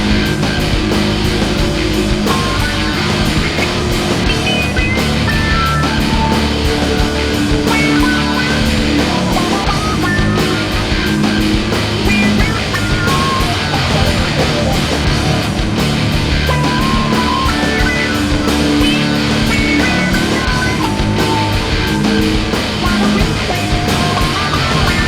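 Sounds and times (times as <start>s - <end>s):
rock music with distorted guitar: 0.0s - 25.0s.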